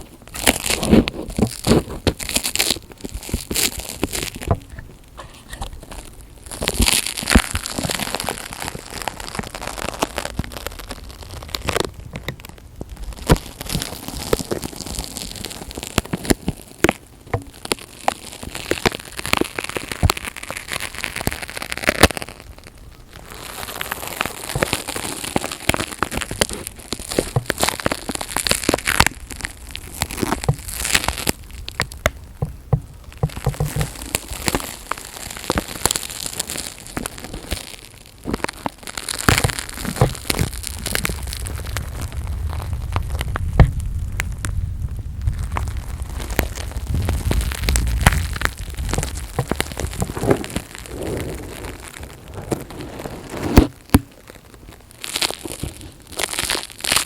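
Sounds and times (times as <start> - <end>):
material crackling and crinkling: 0.0 - 57.0.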